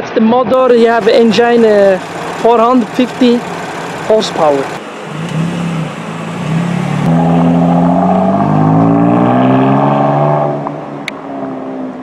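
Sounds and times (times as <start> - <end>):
car exhaust as car pulls away: 1.0 - 12.0.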